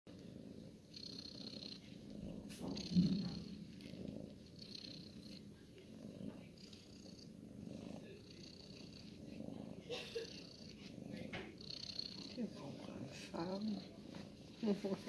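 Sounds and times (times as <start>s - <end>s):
cat purring: 0.1s - 15.0s.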